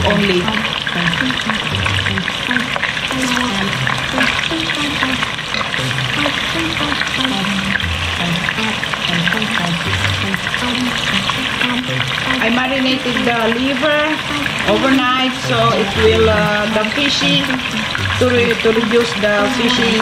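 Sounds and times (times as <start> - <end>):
background music: 0.0 - 20.0
liver sizzling in oil: 0.0 - 20.0.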